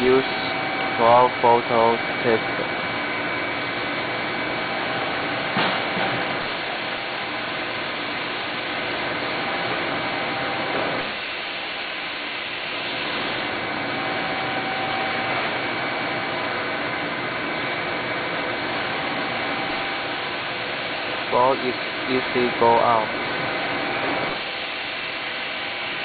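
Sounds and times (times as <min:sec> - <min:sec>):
equipment hiss and hum: 0:00.0 - 0:26.0.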